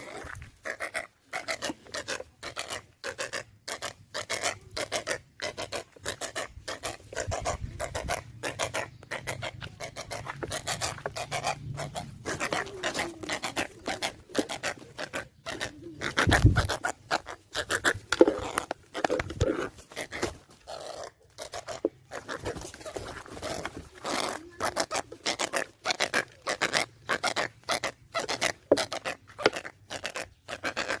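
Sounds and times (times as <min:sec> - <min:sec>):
short scratching scrapes: 0:00.0 - 0:31.0.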